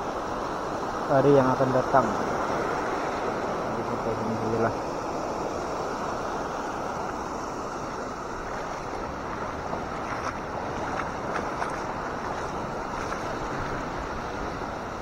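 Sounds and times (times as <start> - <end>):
small waves washing on rocky shore: 0.1 - 15.0.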